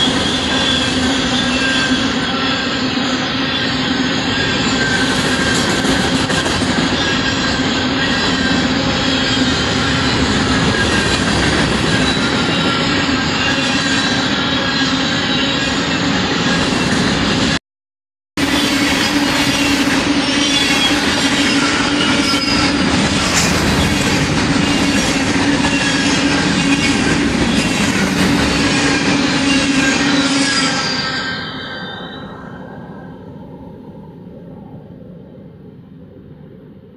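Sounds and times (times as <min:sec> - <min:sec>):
freight train rumbling past: 0:00.0 - 0:17.6, 0:18.4 - 0:34.3.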